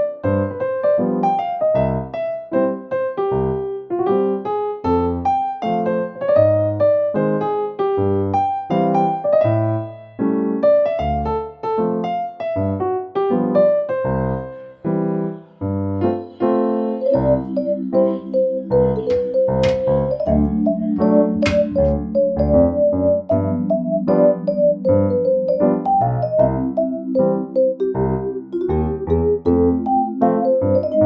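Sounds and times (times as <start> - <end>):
solo piano melody: 0.0 - 31.0.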